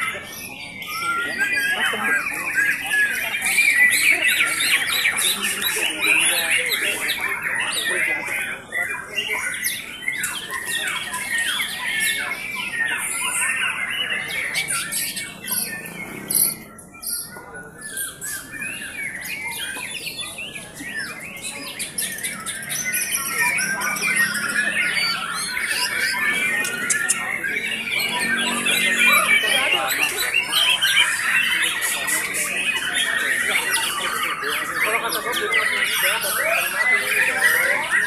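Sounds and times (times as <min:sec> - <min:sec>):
songbirds singing and chattering: 0:00.0 - 0:38.0.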